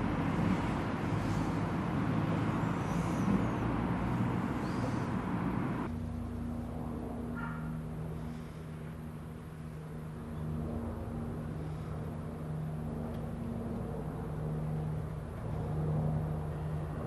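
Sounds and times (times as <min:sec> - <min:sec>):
diesel railcar engine hum: 0:00.0 - 0:17.0
steady low hum: 0:00.0 - 0:17.0.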